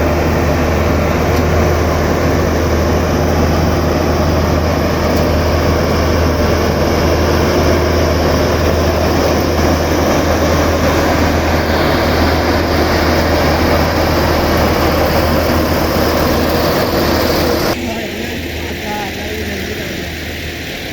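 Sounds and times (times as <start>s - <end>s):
combine harvester machinery noise: 0.0s - 20.9s
low engine hum: 0.0s - 20.9s.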